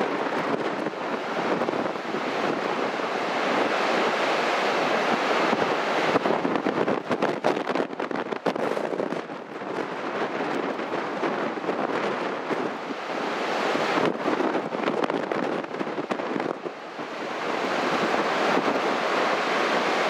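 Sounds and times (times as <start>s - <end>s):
surf crashing on beach: 0.0s - 20.0s
wind buffeting microphone: 0.0s - 20.0s.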